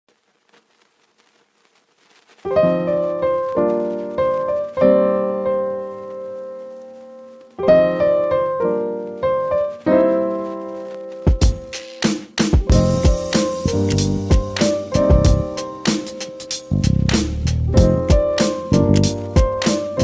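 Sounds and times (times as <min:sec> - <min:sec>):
piano chords: 0:02.5 - 0:20.0.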